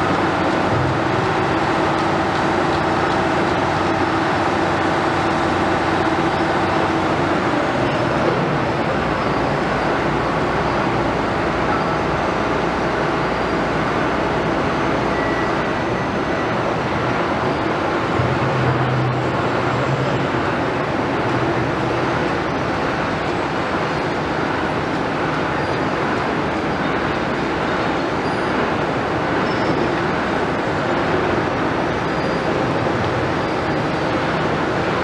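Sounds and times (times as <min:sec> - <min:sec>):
heavy construction machinery din: 0:00.0 - 0:35.0.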